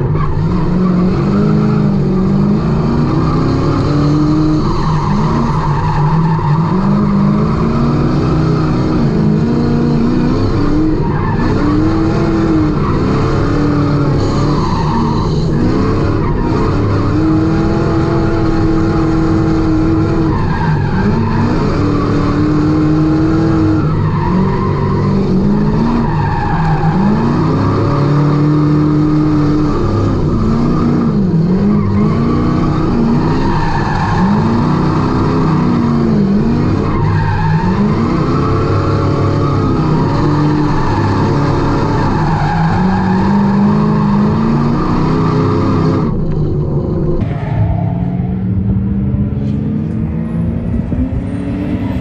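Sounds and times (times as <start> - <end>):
tyres skidding on asphalt: 0.0 - 48.6
car engine revving: 0.0 - 52.0.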